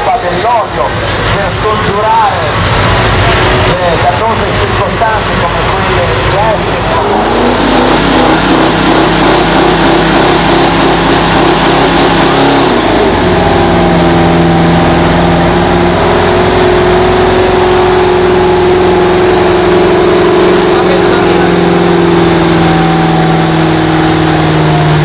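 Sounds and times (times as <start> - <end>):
tractor engine running loud: 0.0 - 25.0.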